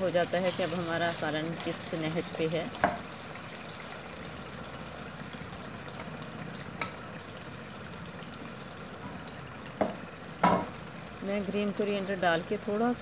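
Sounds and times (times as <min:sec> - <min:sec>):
curry sizzling in oil in a pan: 0:00.0 - 0:13.0.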